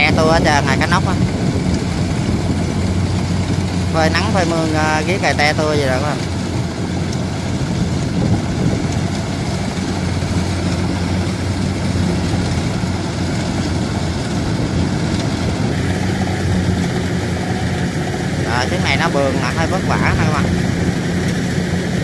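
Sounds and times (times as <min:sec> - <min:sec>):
combine harvester humming: 0:00.0 - 0:22.0.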